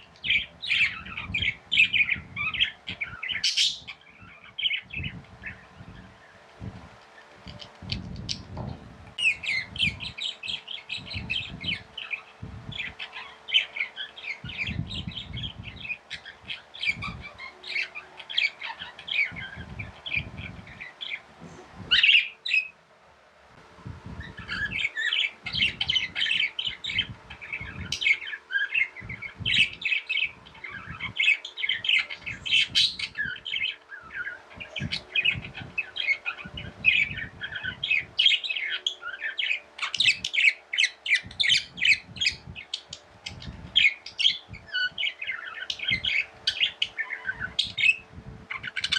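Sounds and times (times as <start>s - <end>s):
budgerigars chirping: 0.0s - 5.7s, 9.2s - 21.3s, 21.9s - 22.7s, 24.2s - 48.9s
faint steady hum: 0.0s - 48.9s.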